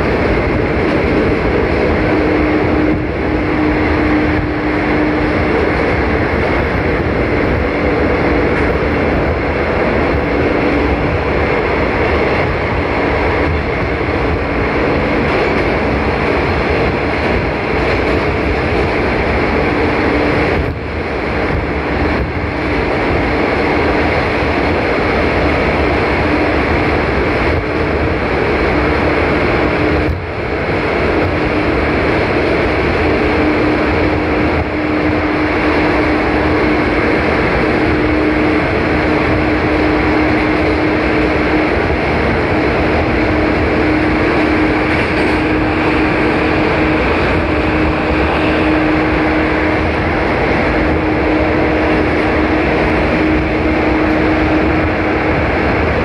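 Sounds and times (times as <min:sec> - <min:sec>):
train running in tunnel: 0:00.0 - 0:56.0.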